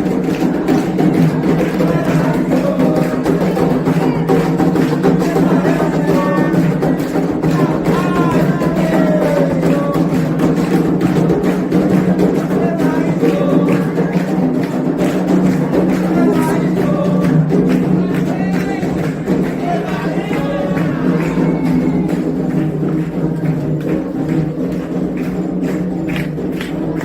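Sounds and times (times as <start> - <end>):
atabaque drumming: 0.0 - 27.0
voices singing together: 0.0 - 27.0.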